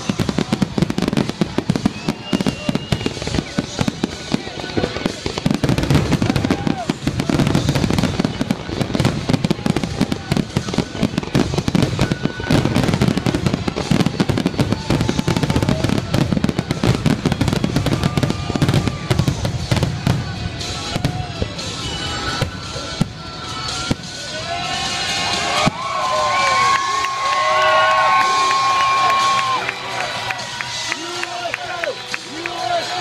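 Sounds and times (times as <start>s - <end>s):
crowd cheering: 0.0s - 33.0s
fireworks cracking and booming: 0.0s - 33.0s.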